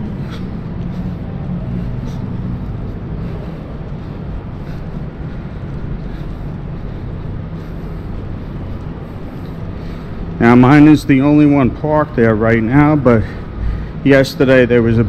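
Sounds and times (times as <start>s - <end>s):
parking garage hum and rumble: 0.0s - 15.0s.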